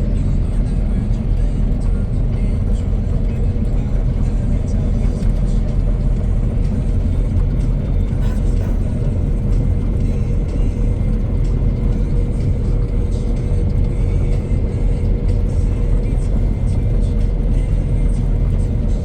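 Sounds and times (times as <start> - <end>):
constant whine: 0.0 - 19.0
tractor engine rumbling: 0.0 - 19.0.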